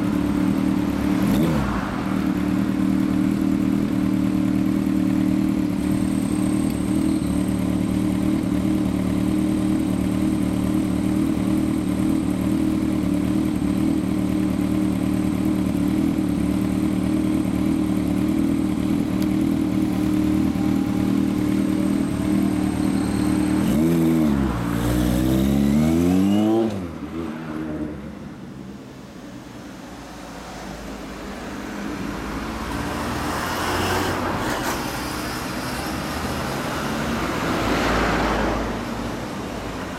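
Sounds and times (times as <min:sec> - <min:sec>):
motorcycle engine revving: 0:00.0 - 0:28.3, 0:31.1 - 0:39.1
passing traffic: 0:00.0 - 0:39.9.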